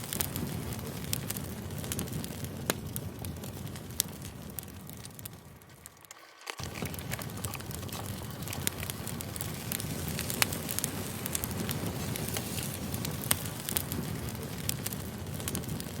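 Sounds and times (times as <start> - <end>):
campfire flame rushing: 0.0 - 16.0
wood crackling and popping: 0.0 - 16.0.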